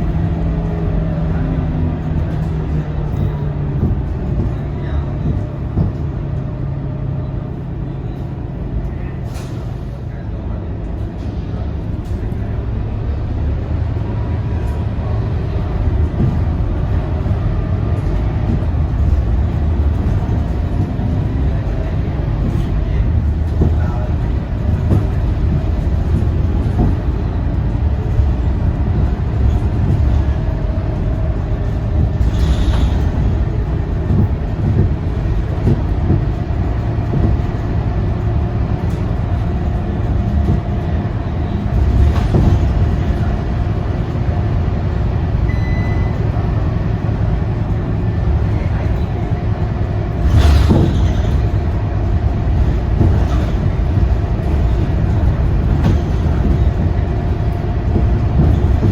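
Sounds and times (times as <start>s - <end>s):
bus diesel engine: 0.0s - 58.9s
road rumble: 0.0s - 58.9s.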